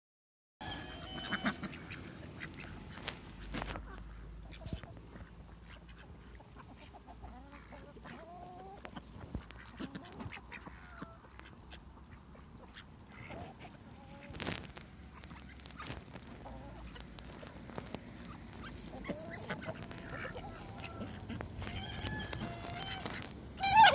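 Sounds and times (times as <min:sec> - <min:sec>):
ducks quacking: 0:00.6 - 0:14.5, 0:15.1 - 0:23.9
beaks pecking at grain: 0:01.0 - 0:23.9.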